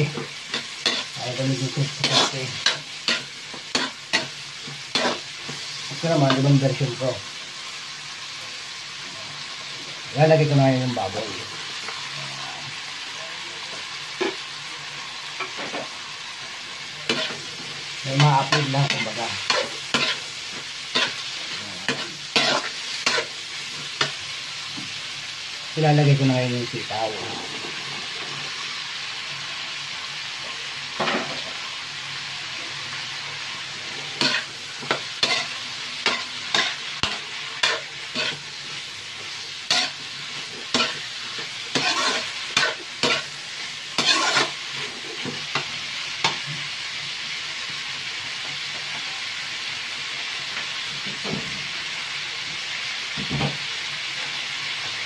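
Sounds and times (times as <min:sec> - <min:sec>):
meat frying in a wok: 0:00.0 - 0:55.0.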